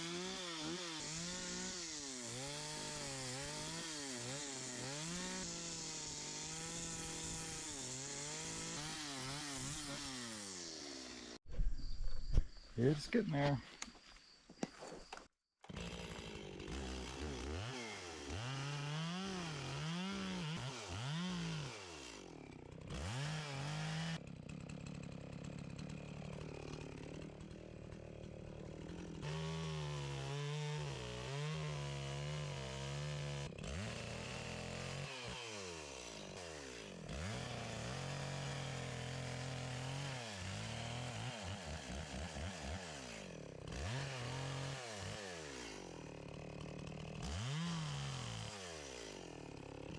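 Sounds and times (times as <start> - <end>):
chainsaw cutting wood: 0.0 - 11.4, 15.6 - 49.9.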